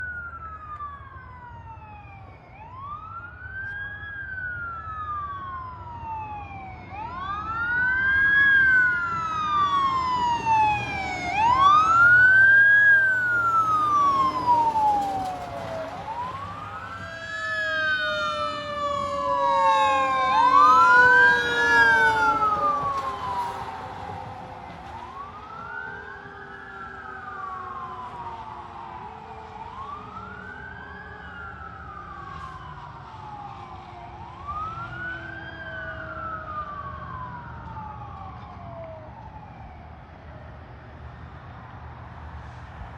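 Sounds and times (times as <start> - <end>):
fire engine sirens wailing: 0.0 - 42.9.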